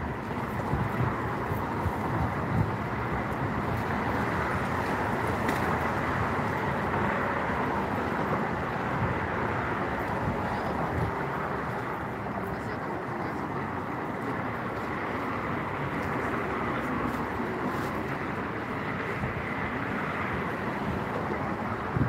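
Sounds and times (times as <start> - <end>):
road traffic rushing: 0.0 - 22.0
wind rumble on microphone: 0.0 - 22.0.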